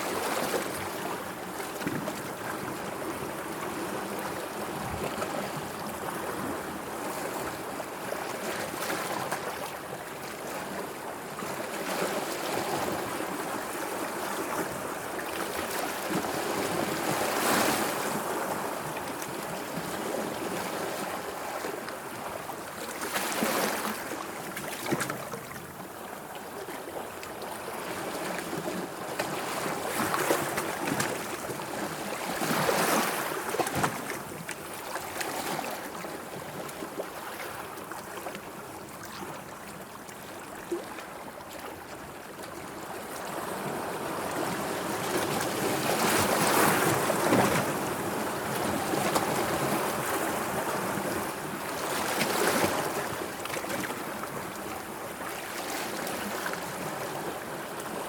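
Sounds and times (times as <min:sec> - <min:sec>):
sea water lapping waves: 0:00.0 - 0:58.0.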